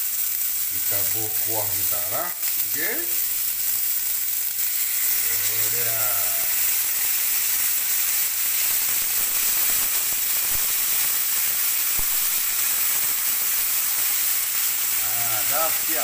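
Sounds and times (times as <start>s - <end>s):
sauce sizzling on hot plate: 0.0s - 16.0s.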